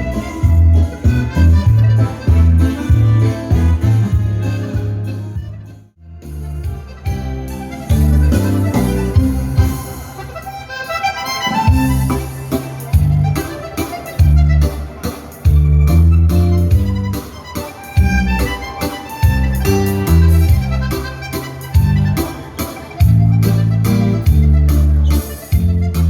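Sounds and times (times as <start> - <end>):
heavy bass line: 0.0 - 10.5, 11.6 - 17.4, 18.0 - 26.0
accordion: 0.0 - 26.0
dance band music: 0.0 - 26.0.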